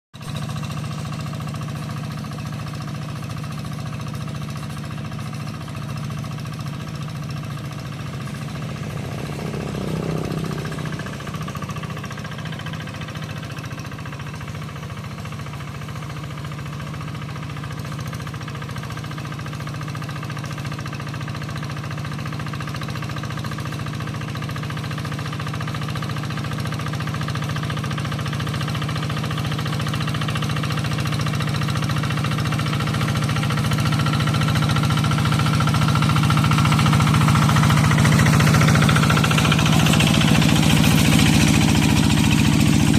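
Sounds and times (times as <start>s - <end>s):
tractor engine running: 0.2s - 24.9s, 25.8s - 42.9s.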